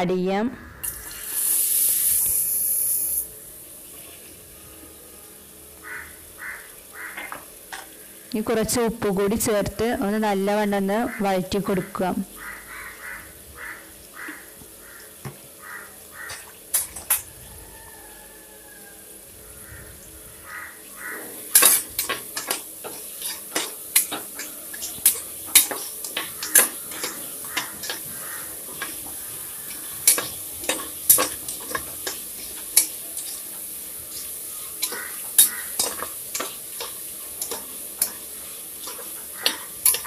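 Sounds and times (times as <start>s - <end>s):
onions sizzling in oil: 0.8s - 40.0s.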